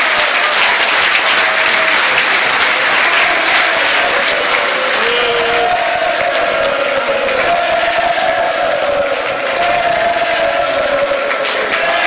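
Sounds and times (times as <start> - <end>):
crowd clapping: 0.0 - 12.0
voices cheering: 0.0 - 12.0.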